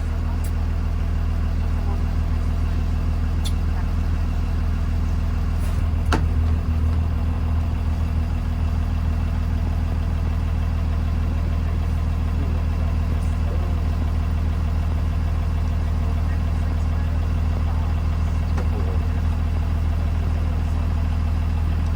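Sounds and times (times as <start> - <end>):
bus engine idling: 0.0 - 21.9.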